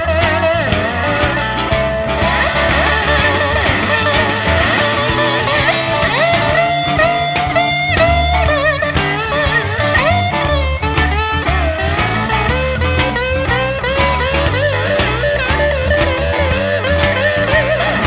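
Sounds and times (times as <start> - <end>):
bass and drums: 0.0 - 18.0
electric guitar lead: 0.0 - 18.0.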